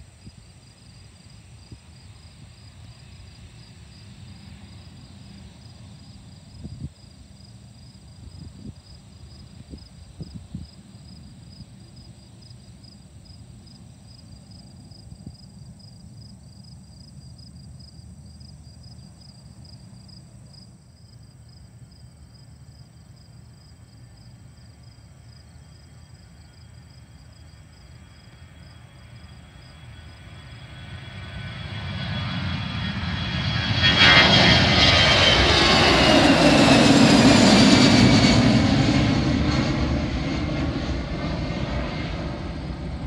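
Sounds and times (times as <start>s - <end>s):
jet engine whine: 0.0s - 43.0s
low wind rumble: 0.0s - 43.0s
insects trilling: 0.4s - 39.8s.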